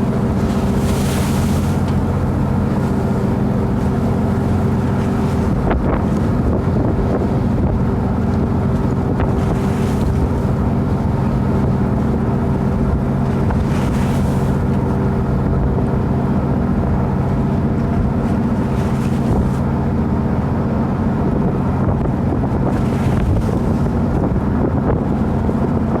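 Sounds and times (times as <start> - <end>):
boat engine running: 0.0 - 26.0
wind buffeting microphone: 0.0 - 26.0.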